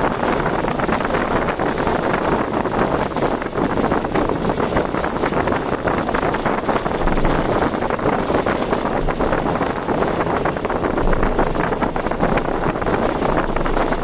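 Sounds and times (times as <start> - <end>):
car driving: 0.0 - 14.0
wind rushing: 0.0 - 14.0.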